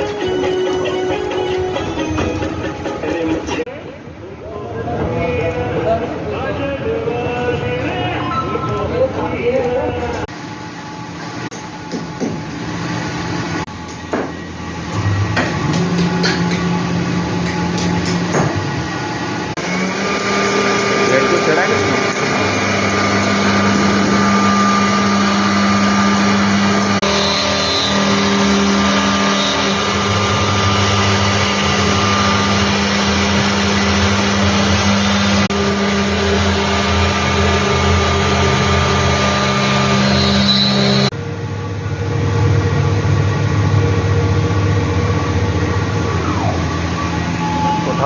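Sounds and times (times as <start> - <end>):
cnc machine humming: 0.0 - 3.7, 10.3 - 48.0.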